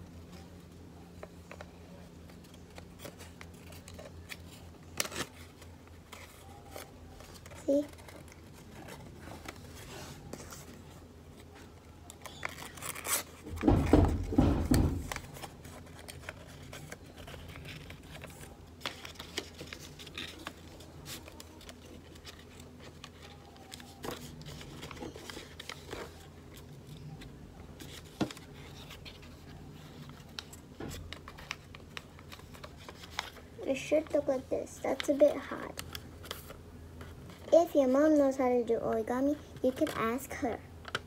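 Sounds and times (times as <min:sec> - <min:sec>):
handling noise with low rumble: 0:00.0 - 0:38.1
paper rustling and crackling: 0:00.2 - 0:41.0.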